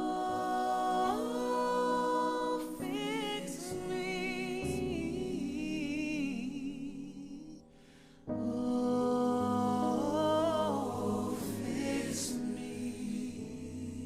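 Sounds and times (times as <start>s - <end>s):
a cappella gospel singing: 0.0s - 7.6s, 8.3s - 14.0s.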